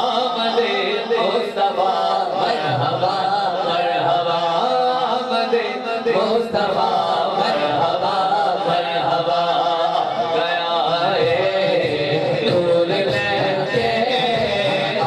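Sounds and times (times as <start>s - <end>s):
men chanting into microphones: 0.0s - 15.0s.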